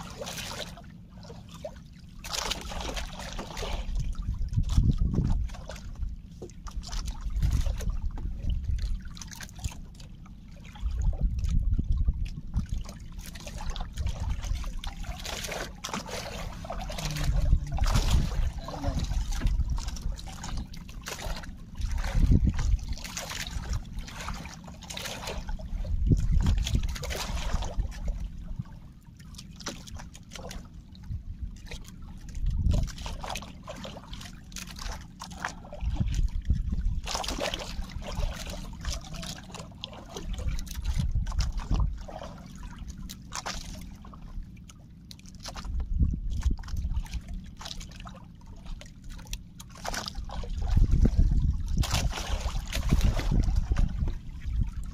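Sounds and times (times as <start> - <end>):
water sloshing against boat hull: 0.0 - 54.9.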